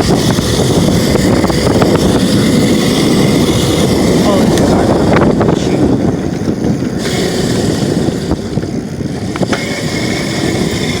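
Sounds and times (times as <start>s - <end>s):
dirt bike engine rumble: 0.0s - 11.0s.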